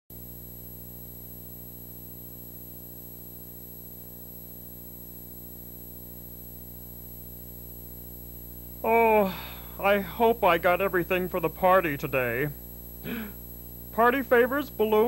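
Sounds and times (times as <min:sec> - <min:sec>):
electrical hum: 0:00.2 - 0:15.0
faint high-pitched whine: 0:00.2 - 0:15.0
light hiss: 0:02.8 - 0:15.0.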